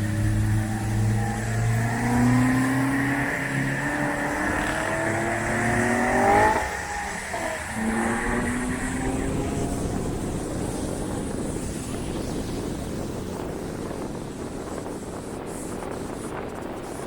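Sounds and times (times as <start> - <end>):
car engine accelerating: 0.0 - 14.8.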